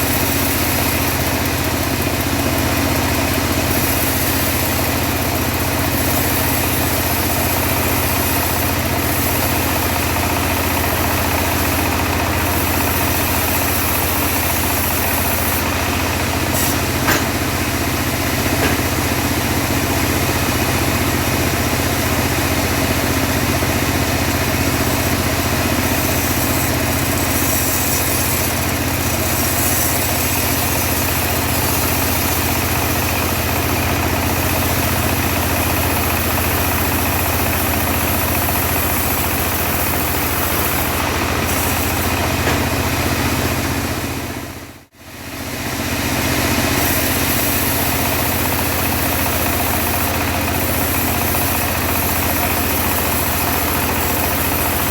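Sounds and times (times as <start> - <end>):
bandsaw mill engine running: 0.0 - 54.9.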